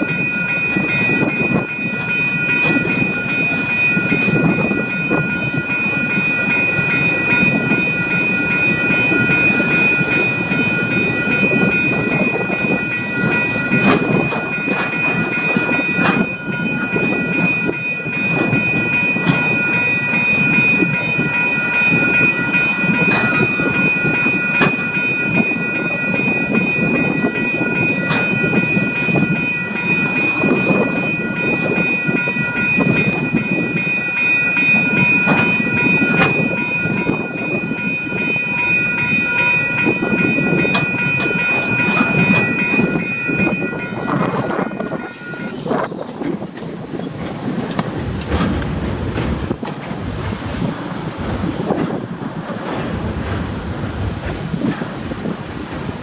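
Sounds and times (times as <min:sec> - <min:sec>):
high multi-tone whine: 0:00.0 - 0:56.0.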